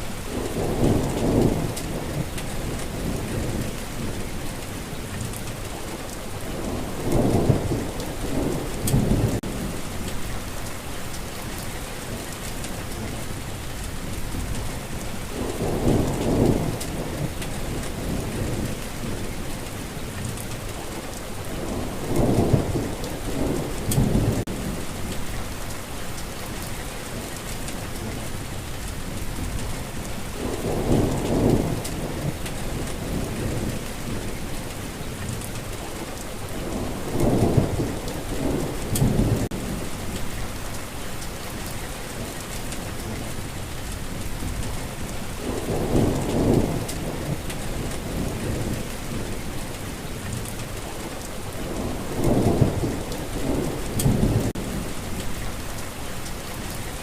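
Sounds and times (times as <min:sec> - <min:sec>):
steady rain falling: 0:00.0 - 0:57.0
thunder rumbling: 0:00.2 - 0:05.3, 0:06.4 - 0:11.6, 0:12.4 - 0:26.7, 0:27.4 - 0:41.7, 0:42.5 - 0:57.0.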